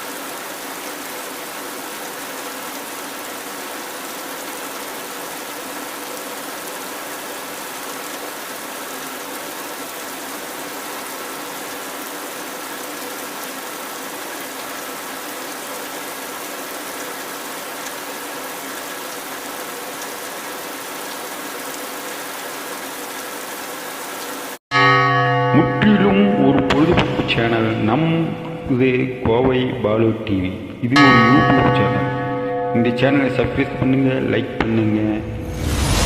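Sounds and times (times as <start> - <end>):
rain on a metal roof: 0.0 - 27.4, 31.0 - 34.8.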